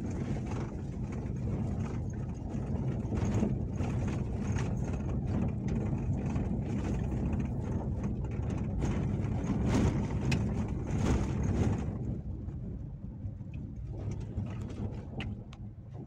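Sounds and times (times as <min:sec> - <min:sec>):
engine and tyres rumbling: 0:00.0 - 0:16.0.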